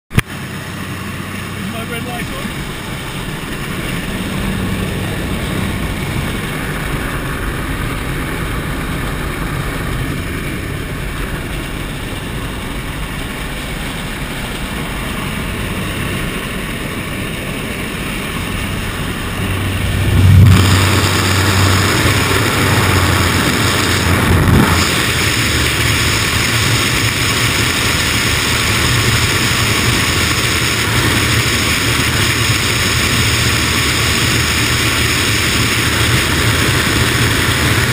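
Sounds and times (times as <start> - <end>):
propeller engine droning: 0.1 - 37.9
wind gusts buffeting: 2.3 - 33.0.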